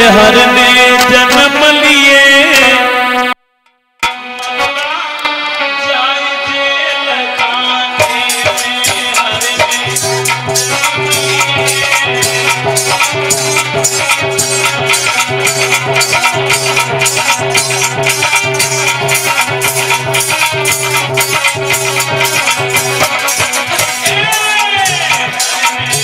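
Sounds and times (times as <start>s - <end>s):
rhythmic hand percussion: 0.0s - 1.7s, 4.0s - 5.9s, 6.6s - 26.0s
harmonium sustained notes: 4.1s - 26.0s.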